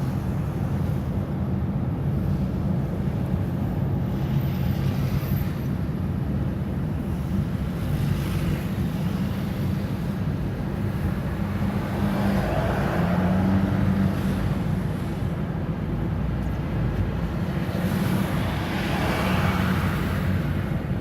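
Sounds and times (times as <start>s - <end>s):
car engine and road noise: 0.0s - 21.0s
wind through open car window: 0.0s - 21.0s.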